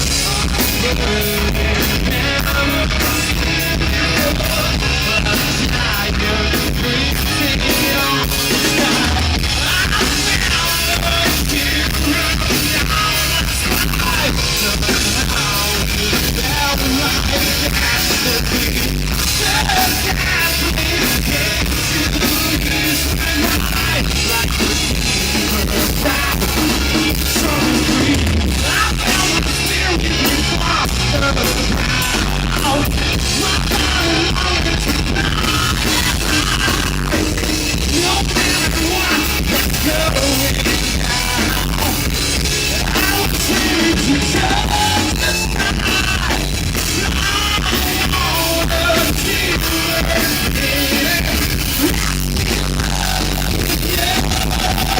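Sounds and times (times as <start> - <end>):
person singing: 0.0 - 54.9
rock band playing: 0.0 - 54.9.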